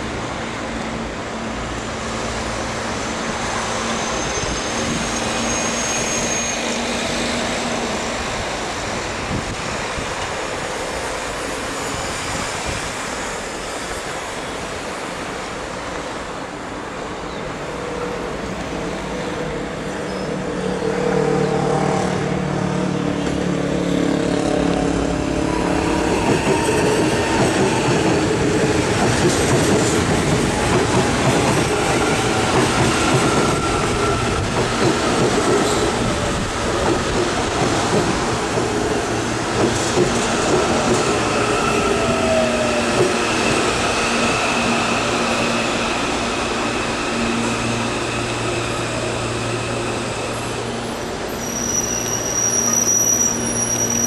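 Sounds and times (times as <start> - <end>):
electric train passing: 0.0 - 54.0.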